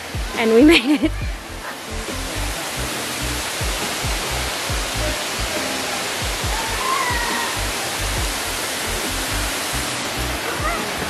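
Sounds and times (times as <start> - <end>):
music with pulsing beat: 0.0 - 11.0
waterfall roaring: 0.0 - 11.0.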